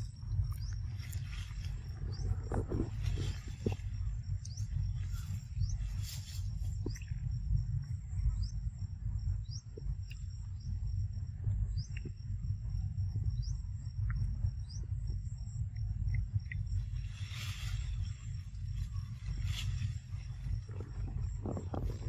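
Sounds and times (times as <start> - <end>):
insect buzzing and chirping: 0.0 - 22.0
low rumble: 0.0 - 22.0.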